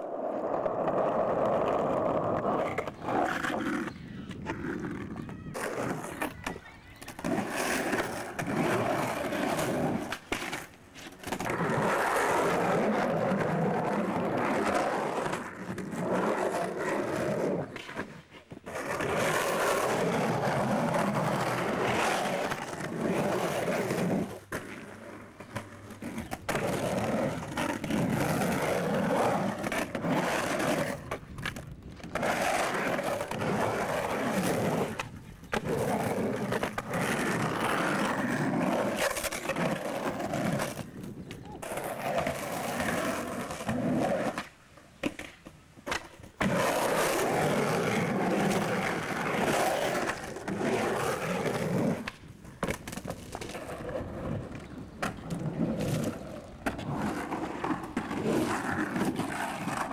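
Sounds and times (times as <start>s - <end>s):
skateboard wheels rolling on concrete: 0.0s - 59.9s
skateboard knocking: 0.3s - 59.9s.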